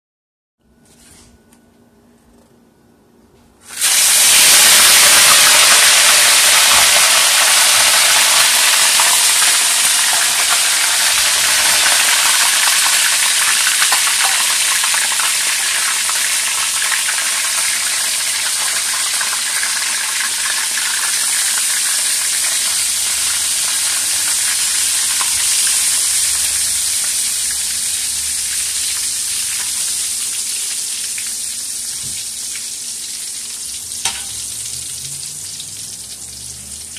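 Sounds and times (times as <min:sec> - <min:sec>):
hot oil sizzling: 0:03.6 - 0:36.9.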